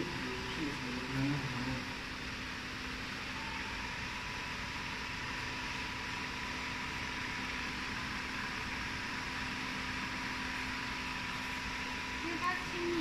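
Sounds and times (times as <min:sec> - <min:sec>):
machines humming with whine: 0:00.0 - 0:13.0.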